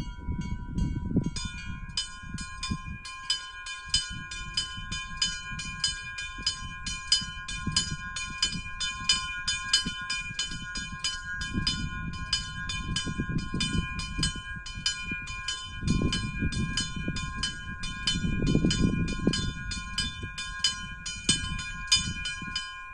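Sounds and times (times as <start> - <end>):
small bells pealing: 0.0 - 22.9.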